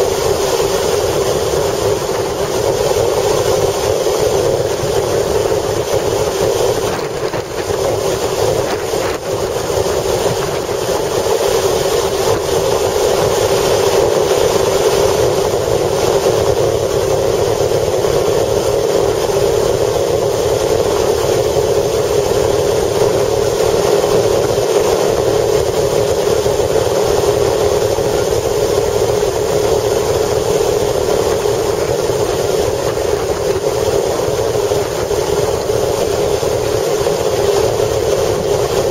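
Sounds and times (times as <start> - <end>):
strong wind rushing: 0.0 - 38.9
vehicle running noise: 0.0 - 38.9.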